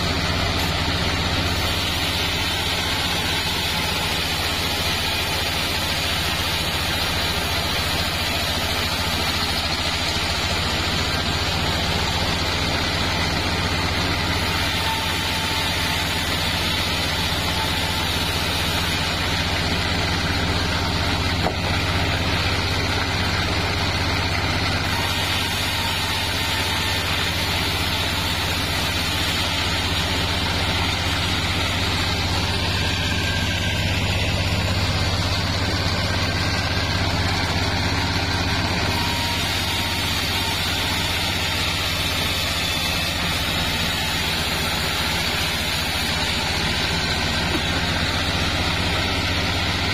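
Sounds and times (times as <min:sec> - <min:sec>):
band saw humming: 0:00.0 - 0:49.9.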